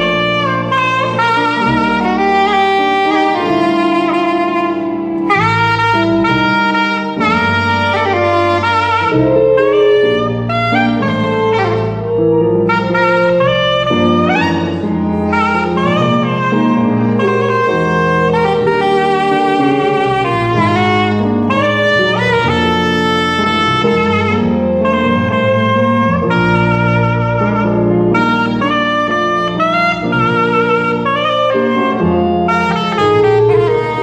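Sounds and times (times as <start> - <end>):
soprano saxophone melody: 0.0 - 34.0
sustained keyboard chords: 0.0 - 34.0.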